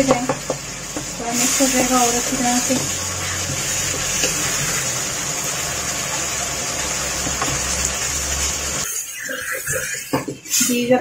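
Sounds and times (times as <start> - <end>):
spatula stirring and mashing: 0.0 - 5.4, 6.1 - 10.9
food sizzling and bubbling: 0.0 - 11.0.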